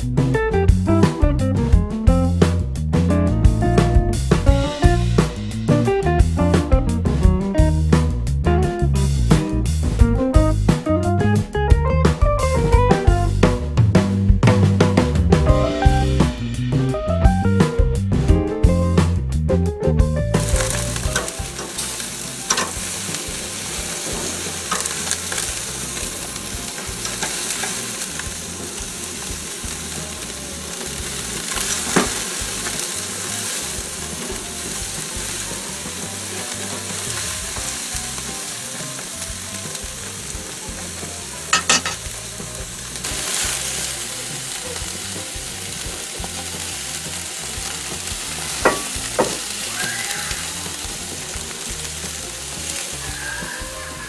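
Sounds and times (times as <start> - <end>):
skewers sizzling on a grill: 0.0 - 10.8, 12.1 - 19.2, 20.2 - 54.0.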